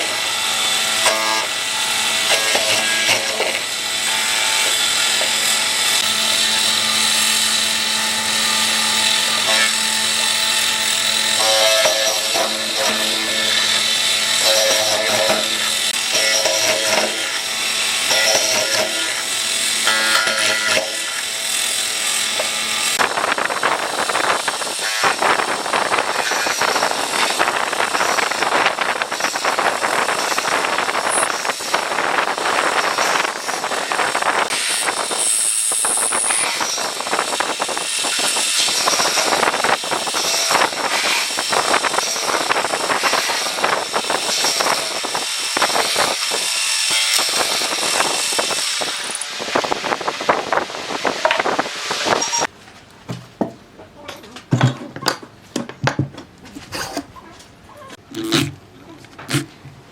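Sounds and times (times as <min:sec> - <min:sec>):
power tool grinding wood: 0:00.0 - 0:52.5.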